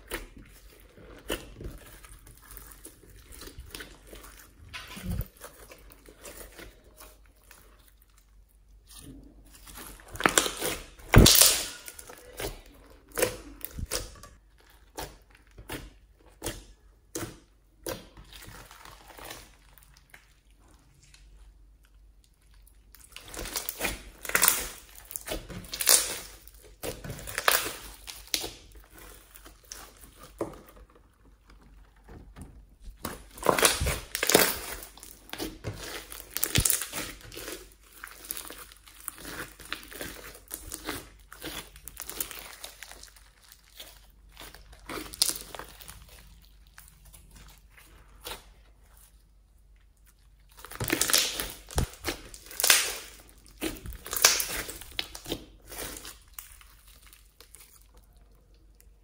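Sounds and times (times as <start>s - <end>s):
slime squelching and crackling: 0.0s - 59.0s.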